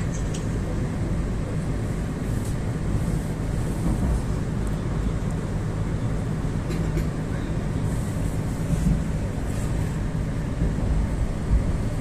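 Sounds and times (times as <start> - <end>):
low train hum: 0.0 - 12.0
train wheels rumbling on rail: 0.0 - 12.0.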